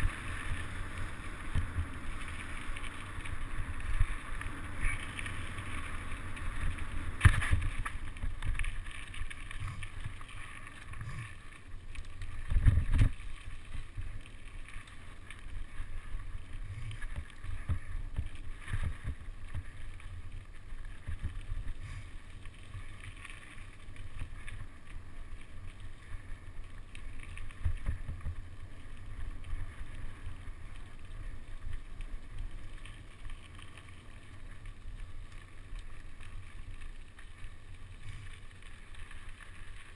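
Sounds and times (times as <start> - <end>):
bike tyres rumbling on dirt: 0.0 - 39.9.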